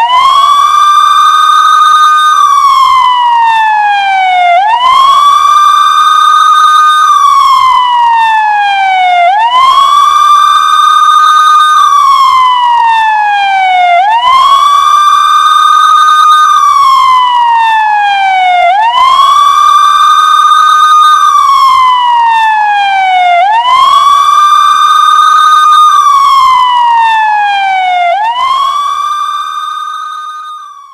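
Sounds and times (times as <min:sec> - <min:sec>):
police siren wailing: 0:00.0 - 0:30.9.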